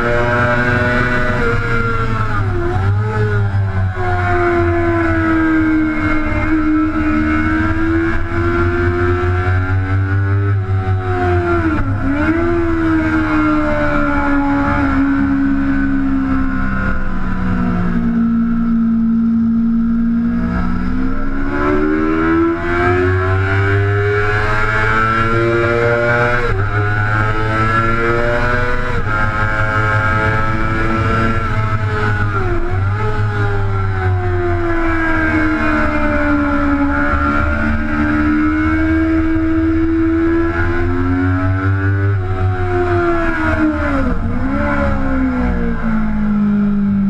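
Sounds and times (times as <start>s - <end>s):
motorcycle engine revving with gear changes: 0.0s - 47.0s.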